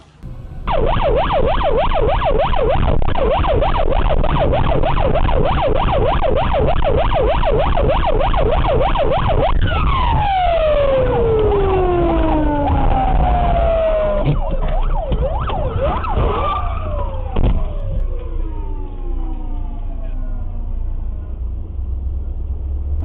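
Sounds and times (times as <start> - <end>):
low vehicle rumble: 0.0 - 23.0
police siren: 0.1 - 21.6.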